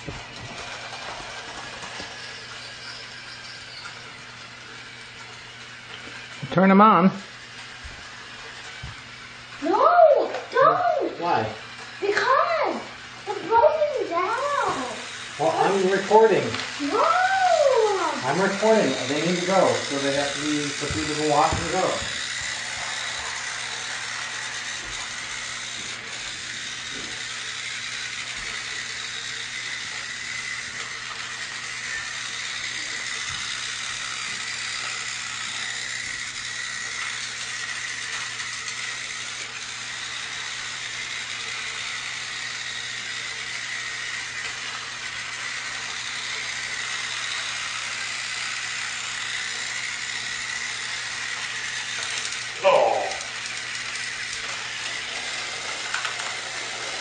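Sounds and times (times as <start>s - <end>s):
toy train motors whirring: 0.0s - 57.0s.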